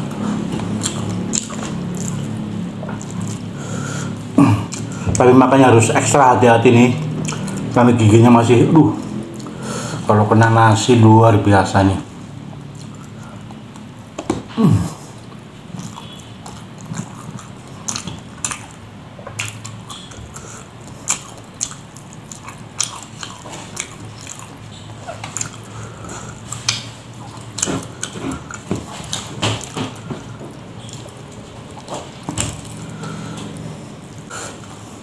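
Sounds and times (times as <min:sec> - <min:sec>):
man chewing food: 0:00.0 - 0:10.1, 0:12.0 - 0:35.0.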